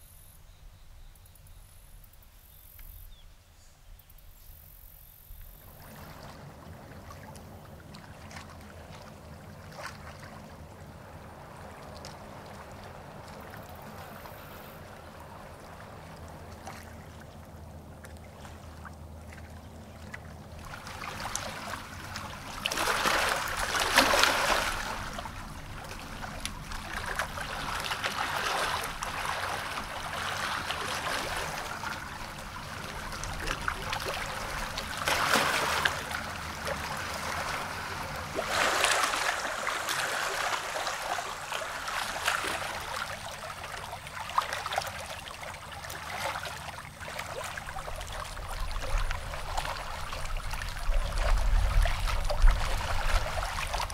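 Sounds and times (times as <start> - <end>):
lake water lapping: 5.4 - 53.9
water trickles and splashes: 5.4 - 53.9.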